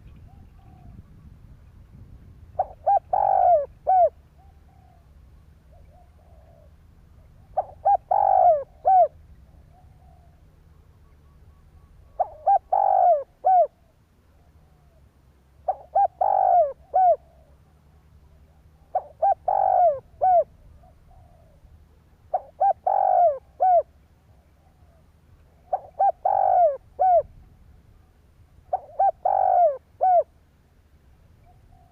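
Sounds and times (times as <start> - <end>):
dove cooing: 0.0 - 1.2, 2.5 - 27.4, 28.6 - 30.4, 31.4 - 31.9.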